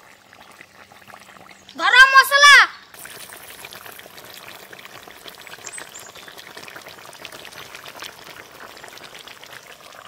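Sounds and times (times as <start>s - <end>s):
curry bubbling in a pot: 0.0s - 1.8s, 2.9s - 10.0s.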